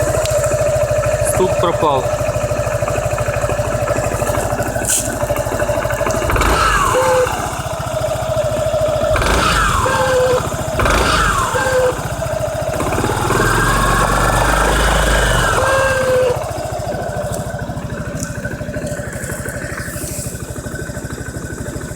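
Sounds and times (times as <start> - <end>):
scooter engine revving and idling: 0.0 - 21.9.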